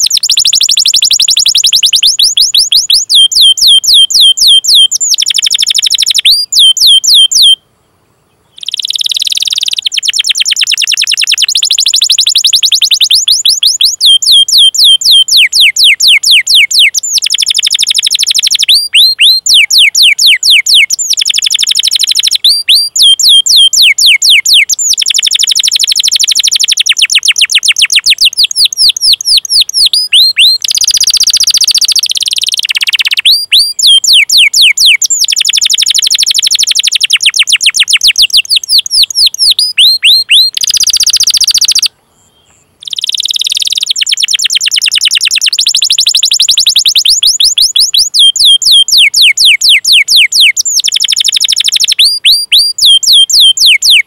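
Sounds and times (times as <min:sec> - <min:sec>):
canary trilling: 0:00.0 - 0:07.6, 0:08.5 - 0:41.9, 0:42.8 - 0:54.0.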